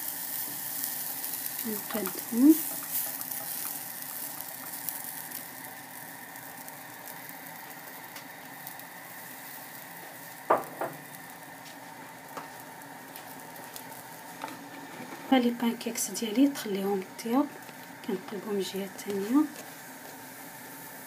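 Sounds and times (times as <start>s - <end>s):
batter sizzling in frying pan: 0.0s - 21.0s.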